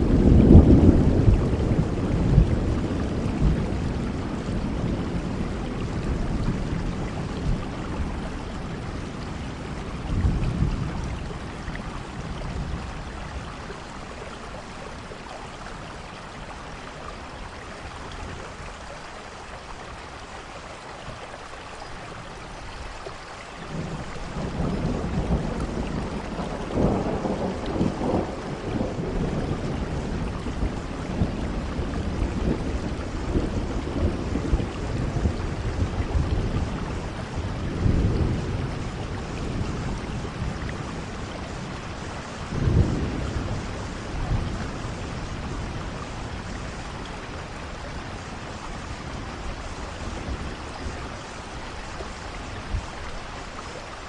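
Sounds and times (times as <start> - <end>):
rolling thunder: 0.0 - 14.6, 23.6 - 53.1
steady rain falling: 0.0 - 54.0.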